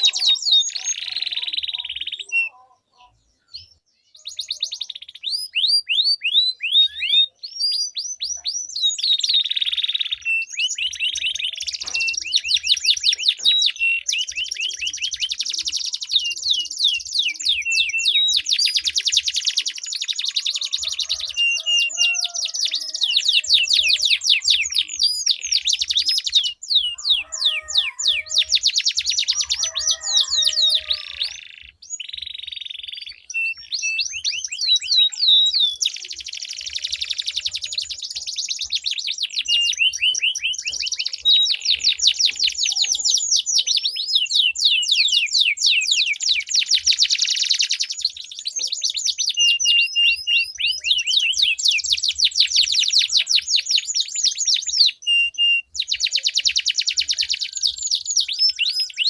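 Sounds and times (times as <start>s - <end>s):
canaries singing trills: 0.0s - 59.0s.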